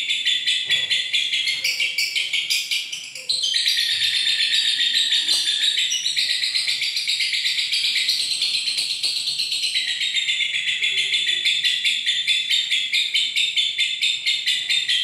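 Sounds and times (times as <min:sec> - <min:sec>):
lovebird chattering trill: 0:00.0 - 0:15.0.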